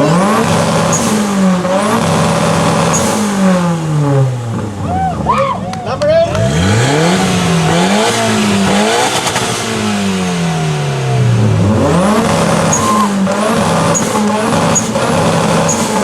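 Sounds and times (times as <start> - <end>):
rev limiter stutter and exhaust cracks: 0.0 - 4.8, 5.8 - 10.2, 11.2 - 16.0
car engine revving: 0.0 - 16.0.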